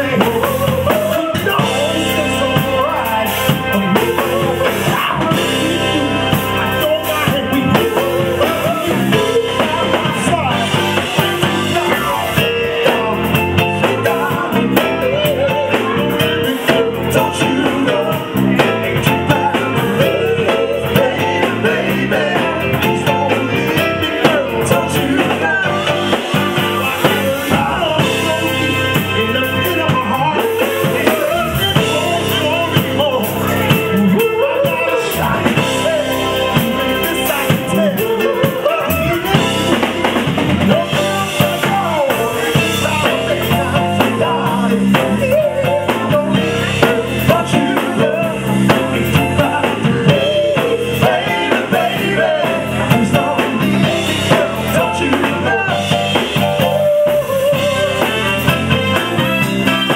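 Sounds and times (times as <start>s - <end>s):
drum kit: 0.0s - 59.9s
electric guitar: 0.0s - 59.9s
man singing: 0.0s - 59.9s.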